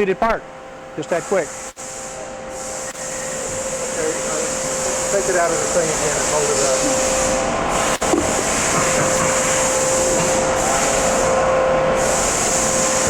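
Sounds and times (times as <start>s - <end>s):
lathe mechanical hum: 0.0s - 13.0s.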